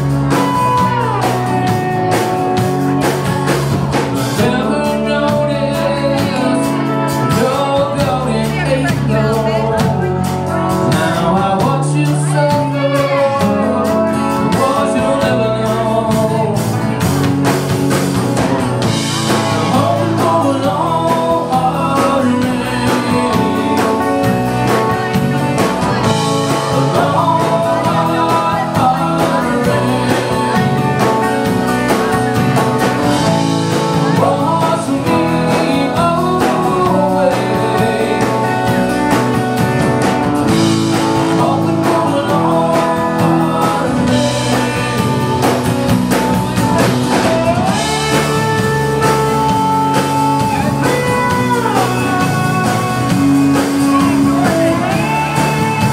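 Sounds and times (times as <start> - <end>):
man singing: 0.0 - 17.6, 18.8 - 55.9
band playing a song: 0.0 - 55.9.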